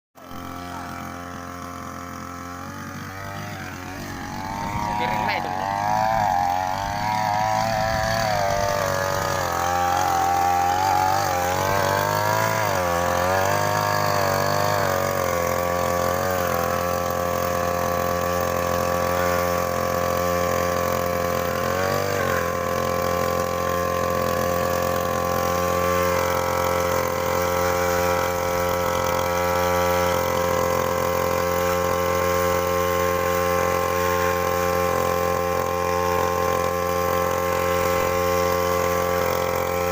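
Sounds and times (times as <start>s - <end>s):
small petrol engine running: 0.2s - 39.9s.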